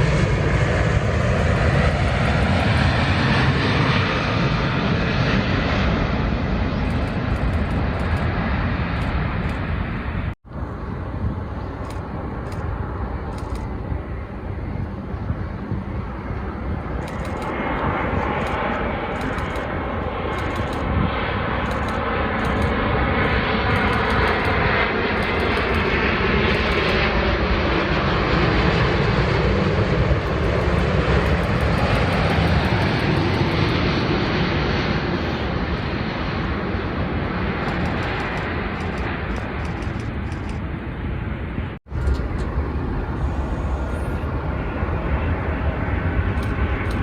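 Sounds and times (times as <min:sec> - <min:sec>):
jet airliner passing overhead: 0:00.0 - 0:47.0
jet engine whine falling: 0:00.0 - 0:47.0.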